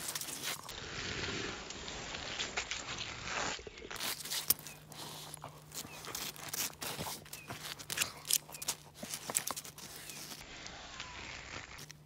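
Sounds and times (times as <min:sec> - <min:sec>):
claws scraping on ice: 0:00.0 - 0:12.0.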